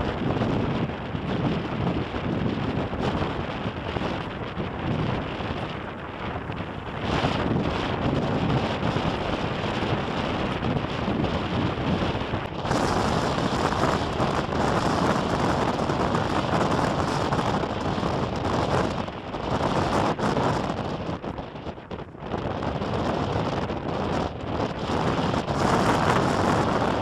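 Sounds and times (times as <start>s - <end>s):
storm wind buffeting microphone: 0.0s - 27.0s.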